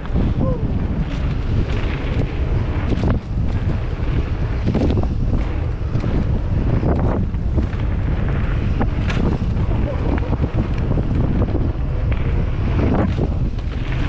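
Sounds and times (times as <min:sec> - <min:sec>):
bike rattling: 0:00.0 - 0:14.0
tyres rolling over gravel: 0:00.0 - 0:14.0
wind buffeting microphone: 0:00.0 - 0:14.0.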